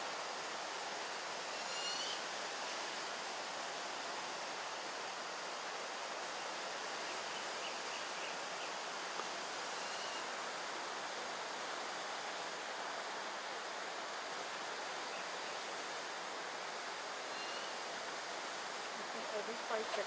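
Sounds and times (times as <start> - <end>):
insects hissing: 0.0 - 20.0.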